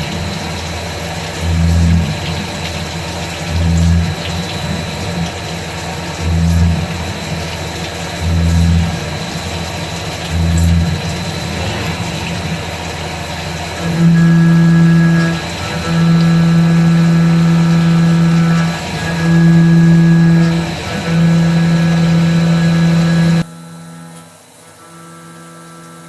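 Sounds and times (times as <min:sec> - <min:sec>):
milling machine high whine: 0:00.0 - 0:26.0
milling machine low hum: 0:00.0 - 0:26.0.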